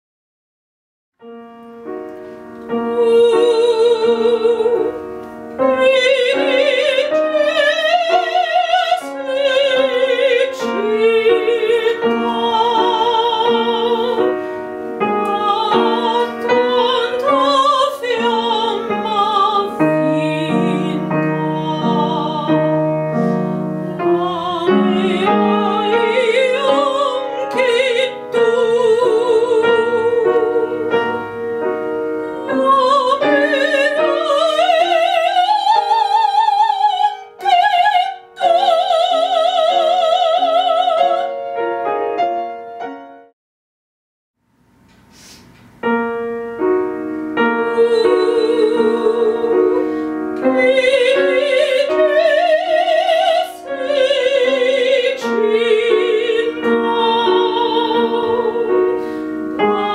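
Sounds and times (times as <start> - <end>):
piano accompaniment: 1.2 - 43.3, 45.2 - 59.9
woman singing opera: 2.7 - 31.5, 32.1 - 41.5, 47.5 - 59.9.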